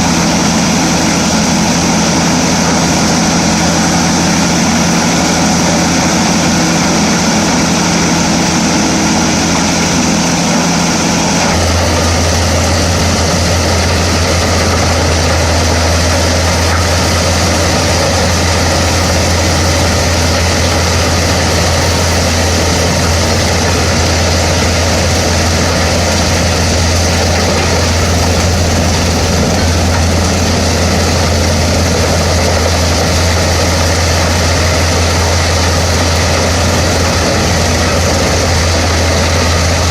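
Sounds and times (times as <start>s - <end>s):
wood chipper diesel engine: 0.0s - 39.9s.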